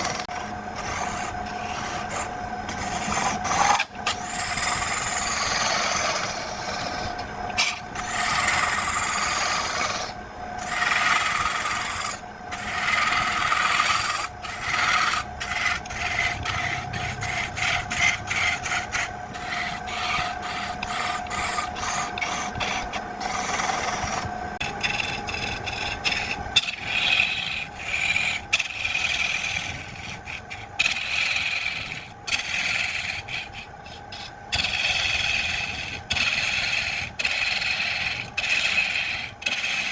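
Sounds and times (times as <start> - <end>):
lathe humming: 0.0 - 39.9
tool scraping spinning wood: 0.0 - 39.9.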